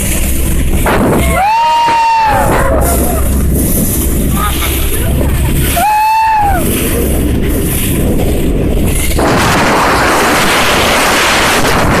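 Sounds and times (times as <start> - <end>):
rush of water and spray: 0.0 - 12.0
wind buffeting: 0.0 - 12.0.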